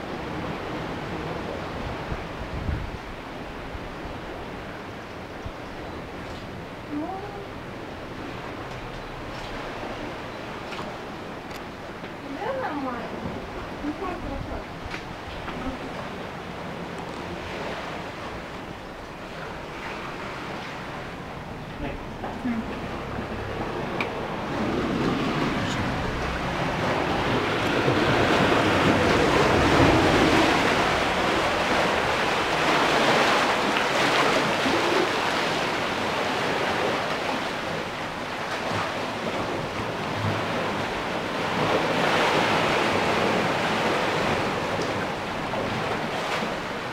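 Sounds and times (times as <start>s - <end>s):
sea waves breaking on rocks: 7.8s - 46.9s.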